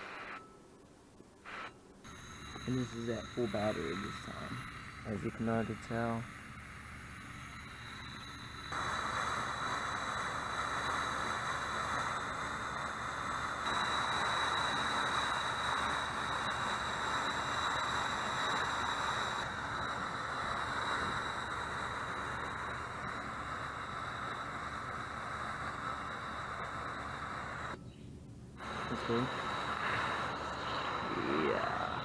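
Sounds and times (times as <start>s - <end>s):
water hissing and sizzling: 2.1s - 27.8s, 28.6s - 32.0s.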